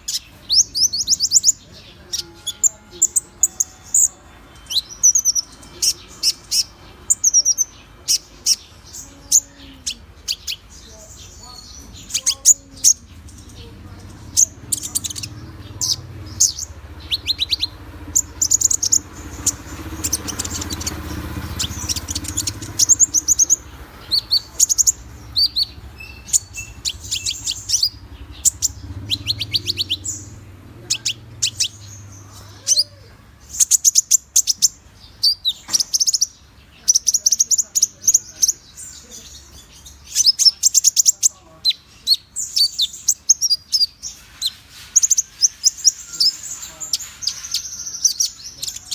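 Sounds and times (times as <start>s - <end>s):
high thin chirping bird trills: 0.0s - 48.9s.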